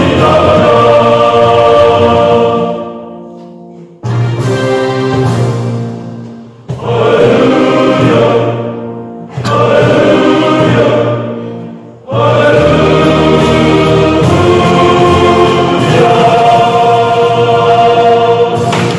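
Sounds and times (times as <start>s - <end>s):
male choir singing in parts: 0.0s - 3.3s, 6.6s - 18.9s.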